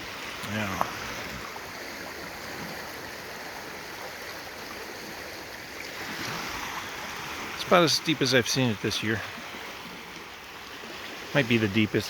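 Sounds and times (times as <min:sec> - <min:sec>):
fast-moving river water rushing: 0:00.0 - 0:12.0.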